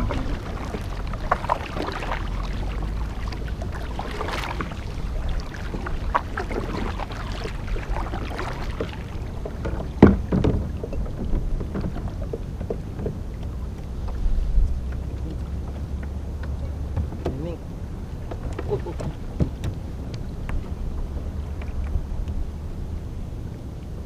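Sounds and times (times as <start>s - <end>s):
knocks against hull: 0.0s - 22.0s
boat engine rumble: 0.0s - 24.0s
water splashes: 0.0s - 24.0s.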